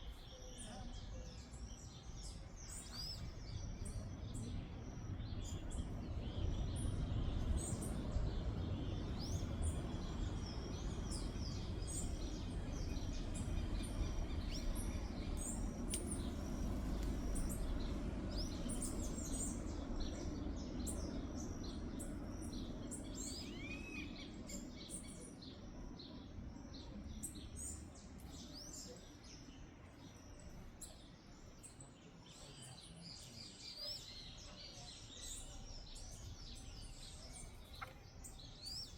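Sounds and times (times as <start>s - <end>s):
low background rumble: 0.0s - 31.7s
birds chirping: 0.0s - 38.9s.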